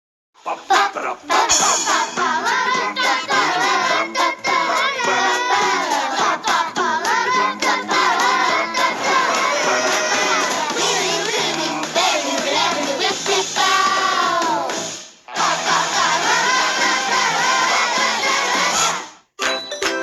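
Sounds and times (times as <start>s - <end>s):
children singing: 0.4s - 19.2s
music: 0.4s - 20.0s.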